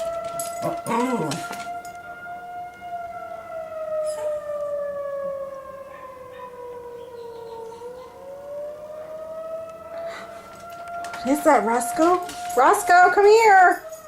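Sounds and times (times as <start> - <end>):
warning siren wailing: 0.0 - 14.0.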